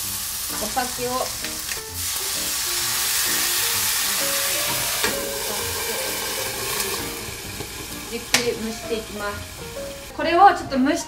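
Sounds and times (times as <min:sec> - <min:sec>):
tofu sizzling in a frying pan: 0:00.0 - 0:10.2.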